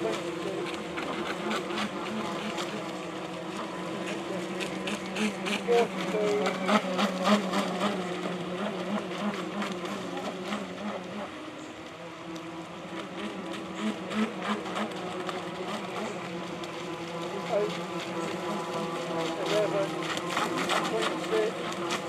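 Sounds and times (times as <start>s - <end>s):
rc boat motors buzzing: 0.0s - 22.0s.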